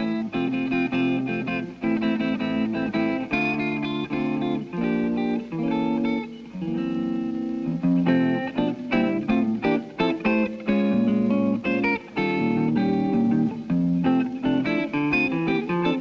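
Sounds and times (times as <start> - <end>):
electric guitar playing: 0.0 - 16.0.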